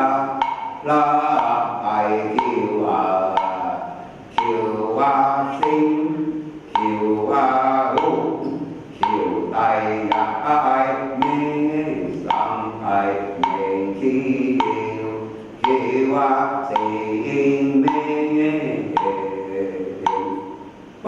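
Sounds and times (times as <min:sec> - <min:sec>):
voices chanting in unison: 0:00.0 - 0:20.8
sharp percussive knocks: 0:00.0 - 0:21.0.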